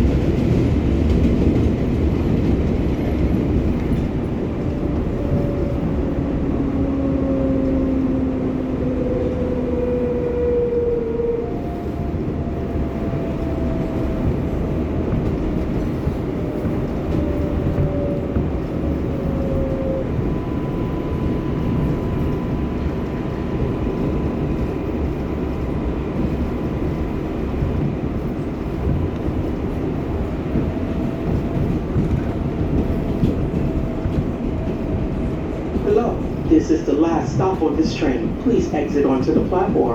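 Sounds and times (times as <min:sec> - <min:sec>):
subway train rumbling on rails: 0:00.0 - 0:39.9.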